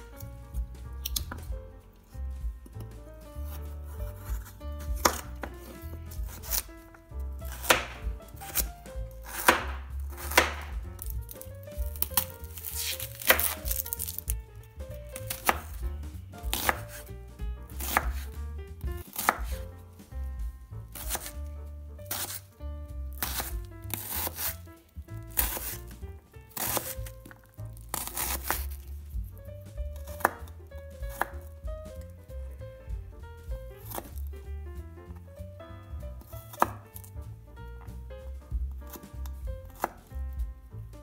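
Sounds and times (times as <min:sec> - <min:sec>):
knife chopping on wooden board: 0:00.0 - 0:01.7, 0:02.4 - 0:21.5, 0:22.1 - 0:22.5, 0:23.1 - 0:32.2, 0:32.9 - 0:34.4, 0:36.2 - 0:37.1, 0:37.8 - 0:40.5
quiet background music: 0:00.0 - 0:41.0.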